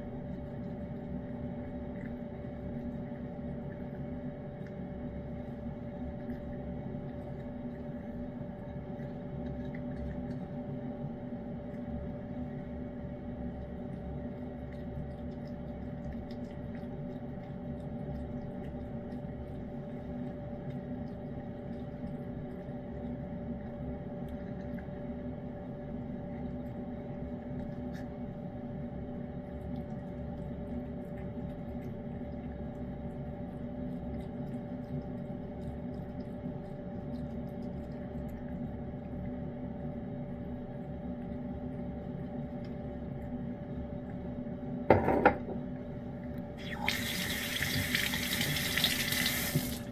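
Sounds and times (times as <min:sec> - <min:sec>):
low electrical hum: 0:00.0 - 0:49.9
cat licking and chewing: 0:00.2 - 0:44.3.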